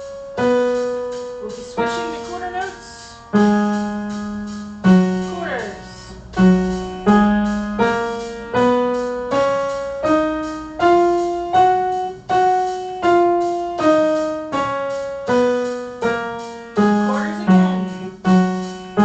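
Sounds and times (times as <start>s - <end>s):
piano playing slow scale: 0.0s - 19.0s.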